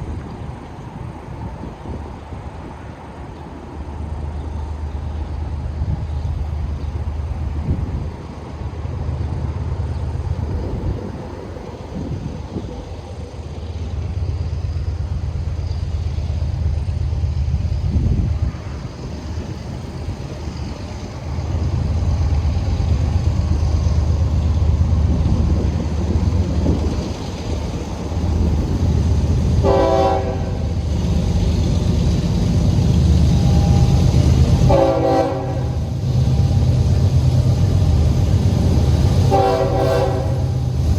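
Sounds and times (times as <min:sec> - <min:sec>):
diesel locomotive engine rumbling: 0:00.0 - 0:40.9.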